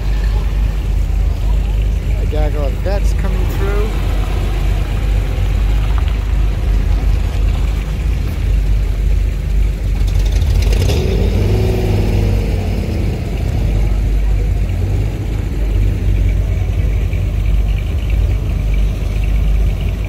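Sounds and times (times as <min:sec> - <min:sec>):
car engines rumbling: 0:00.0 - 0:20.0.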